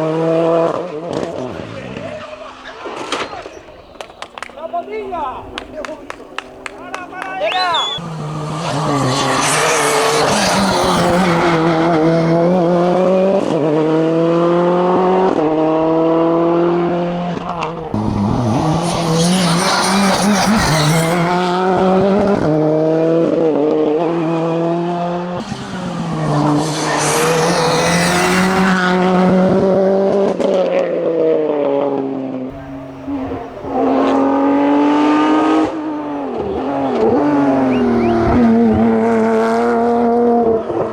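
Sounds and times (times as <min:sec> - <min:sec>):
race car engine accelerating: 0:00.0 - 0:40.9.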